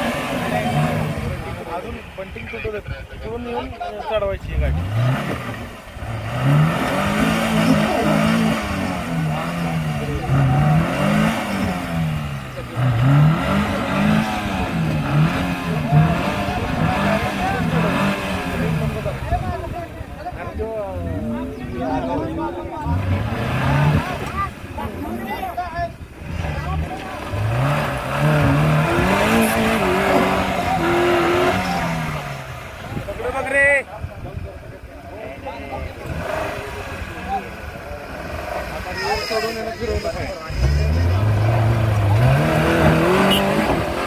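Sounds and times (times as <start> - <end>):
engine revving: 0.0 - 2.4, 4.4 - 33.8, 35.8 - 44.0.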